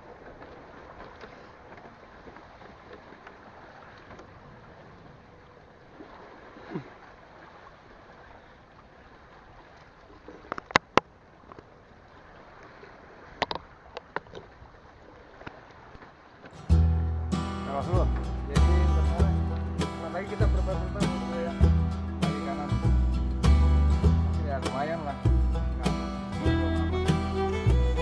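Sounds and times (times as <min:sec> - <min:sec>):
sea water: 0:00.0 - 0:28.0
wind: 0:00.0 - 0:28.0.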